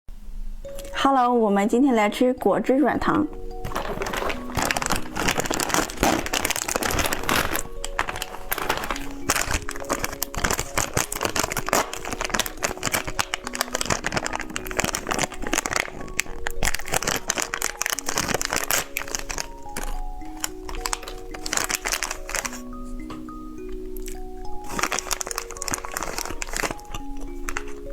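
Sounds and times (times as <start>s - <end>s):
light background music: 0.2s - 27.9s
candy packaging crinkling: 0.6s - 1.0s, 3.3s - 27.9s.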